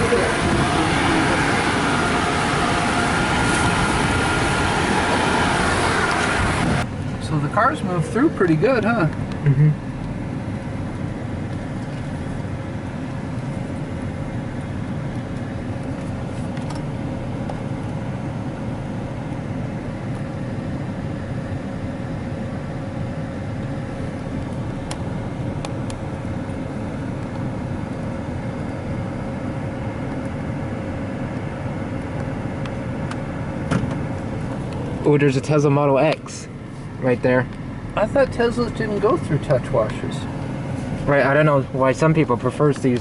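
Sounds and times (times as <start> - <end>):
pickup truck idling: 0.0 - 43.0.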